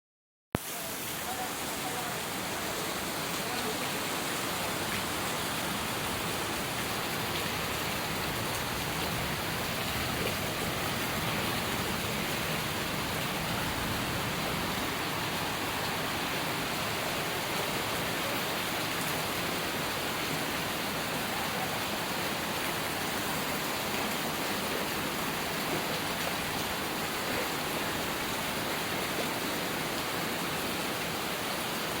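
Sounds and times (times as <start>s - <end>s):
heavy rain pouring: 0.6s - 32.0s.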